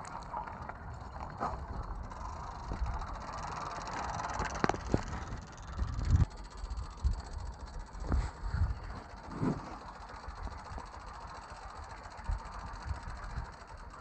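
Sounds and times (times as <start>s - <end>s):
wind rumble on microphone: 0.0s - 11.3s, 11.9s - 14.0s
bicycle rattling and clicking: 0.0s - 14.0s.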